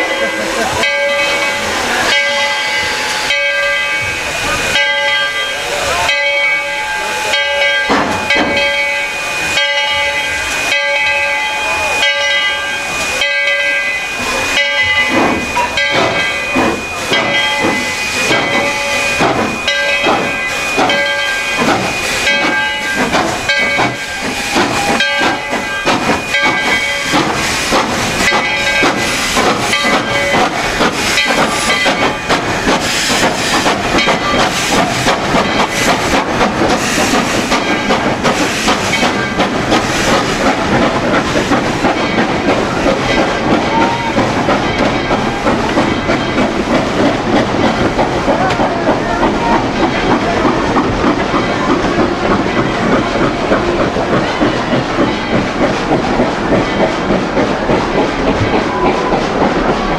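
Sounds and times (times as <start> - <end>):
steam locomotive exhaust chuffs: 0.0 - 59.9.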